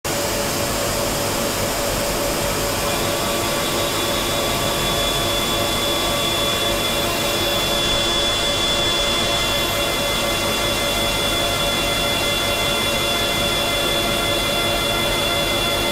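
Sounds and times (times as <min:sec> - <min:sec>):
high machine whine: 0:00.1 - 0:15.9
mill spindle humming: 0:00.1 - 0:15.9.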